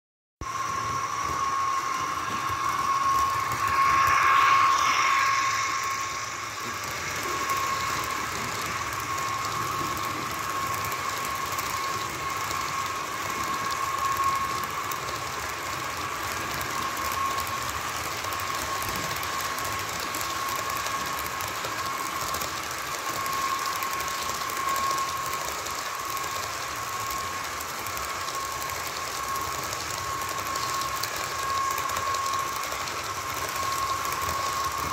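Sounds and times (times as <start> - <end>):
model train motor whine: 0.4 - 34.9.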